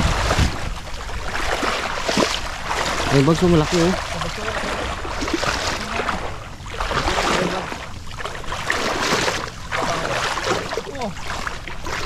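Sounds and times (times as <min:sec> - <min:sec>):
water sloshing around wading legs: 0:00.0 - 0:12.0.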